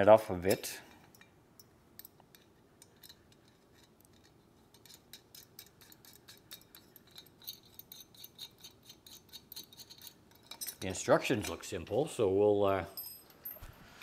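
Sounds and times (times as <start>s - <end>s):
metal hardware clinking: 0.5s - 11.8s, 12.7s - 13.8s.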